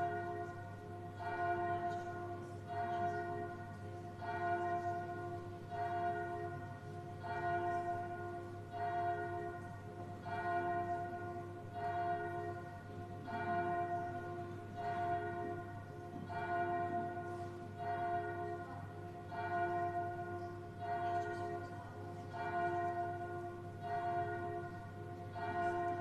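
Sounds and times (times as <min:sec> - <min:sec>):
church bell tolling: 0:00.0 - 0:26.0.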